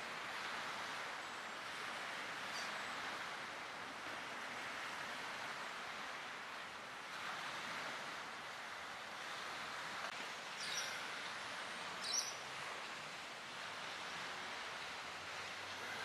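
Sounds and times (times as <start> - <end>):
small waves washing on shore: 0.0 - 16.0.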